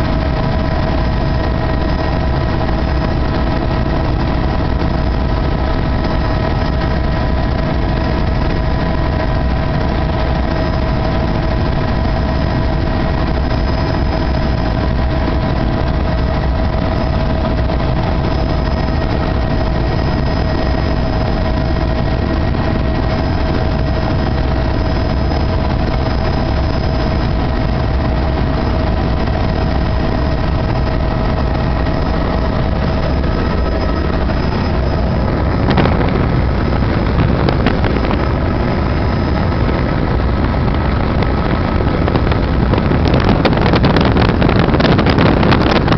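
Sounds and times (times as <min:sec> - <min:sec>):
helicopter running: 0:00.0 - 0:45.9.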